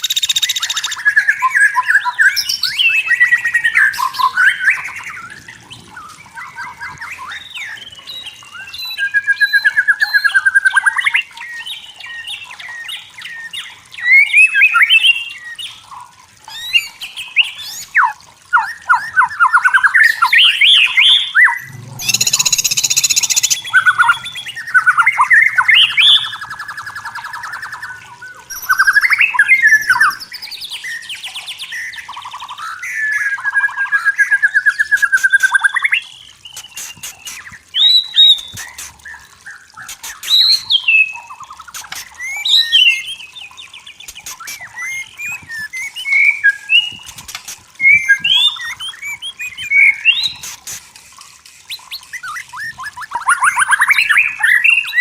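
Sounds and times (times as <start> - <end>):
bird singing whistled phrases: 0.0 - 15.8, 16.5 - 47.1, 47.8 - 50.6, 51.7 - 55.0.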